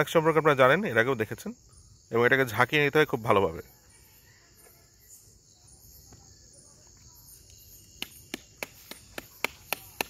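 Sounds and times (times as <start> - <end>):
faint insect trill: 0.0 - 10.0.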